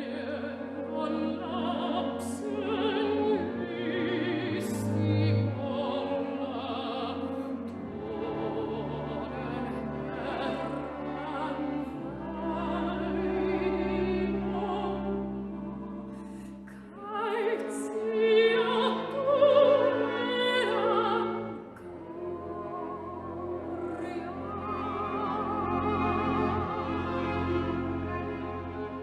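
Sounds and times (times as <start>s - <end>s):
classical accompaniment: 0.0s - 29.0s
operatic singing with vibrato: 0.0s - 29.0s.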